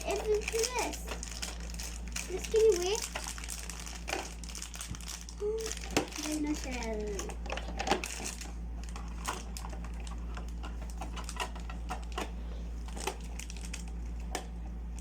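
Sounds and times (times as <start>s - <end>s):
plastic toys and packaging clicking: 0.0s - 15.0s.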